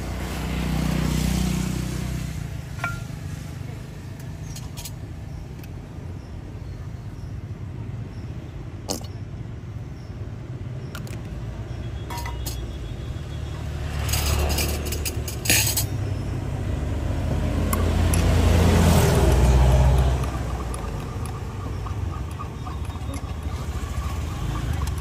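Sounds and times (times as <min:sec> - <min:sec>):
passing motor vehicle rumble: 0:00.0 - 0:25.0.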